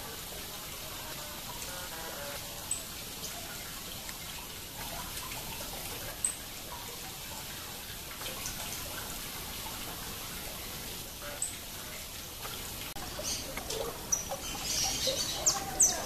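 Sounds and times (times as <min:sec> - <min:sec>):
water trickling down stones: 0:00.0 - 0:16.0.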